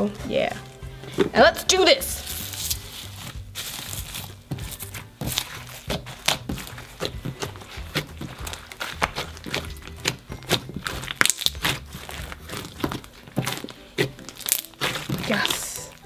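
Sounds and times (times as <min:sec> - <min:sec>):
background music: 0:00.0 - 0:16.0
slime crackling and popping: 0:02.2 - 0:16.0.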